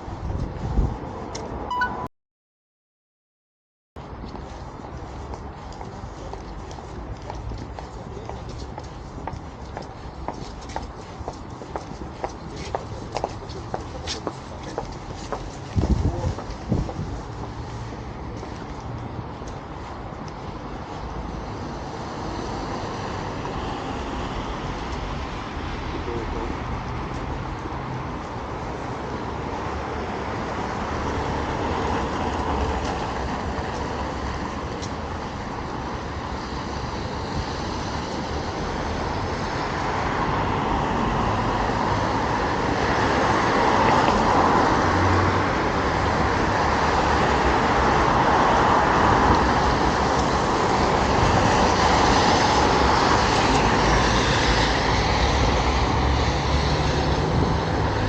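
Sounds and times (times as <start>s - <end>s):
road traffic passing: 0.0s - 2.0s, 4.0s - 58.0s.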